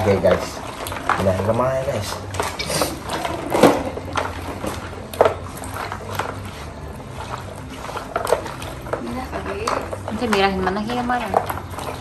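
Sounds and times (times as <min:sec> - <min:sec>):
wet food squelching: 0:00.0 - 0:12.0.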